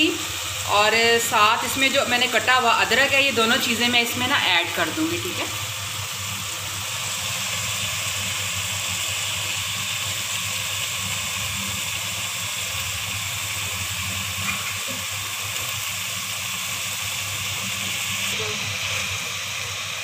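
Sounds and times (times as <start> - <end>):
pot sizzling on stove: 0.0 - 20.0.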